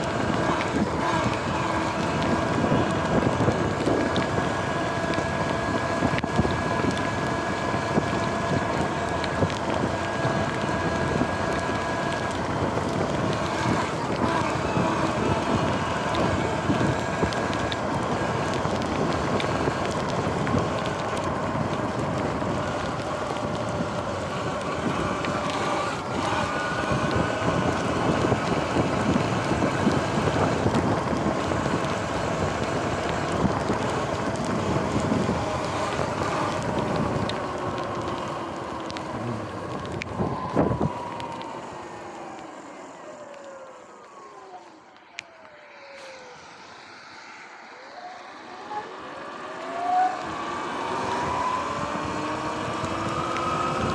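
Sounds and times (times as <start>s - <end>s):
wind buffeting microphone: 0.0s - 44.5s, 45.2s - 53.9s
electric motor whine: 0.0s - 53.9s
tyres hissing on wet asphalt: 0.0s - 53.9s.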